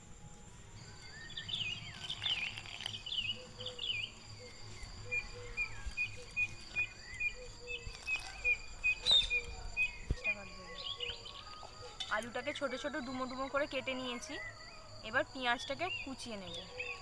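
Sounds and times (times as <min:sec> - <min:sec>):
high insect trill: 0:00.0 - 0:17.0
birds chirping: 0:00.7 - 0:17.0.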